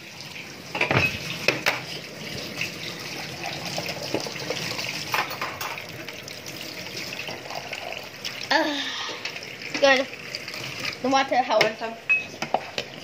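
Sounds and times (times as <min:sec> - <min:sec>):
tap water running into a cup: 0:00.0 - 0:13.0.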